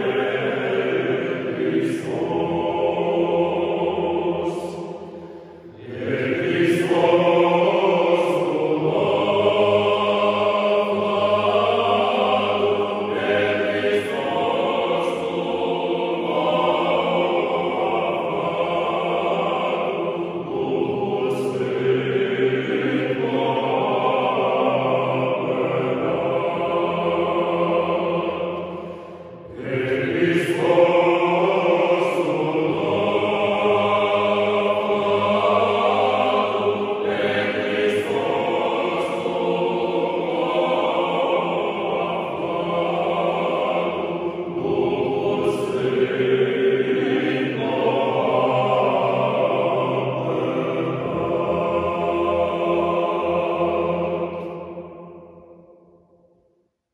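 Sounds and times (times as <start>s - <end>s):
male choir singing a cappella: 0.0s - 56.0s.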